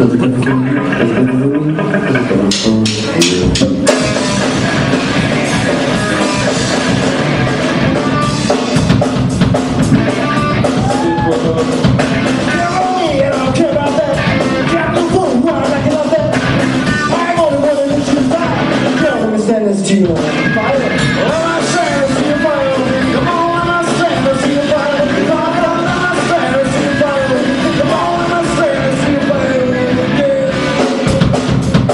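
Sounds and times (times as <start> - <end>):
rock music with singing: 0.0 - 31.9.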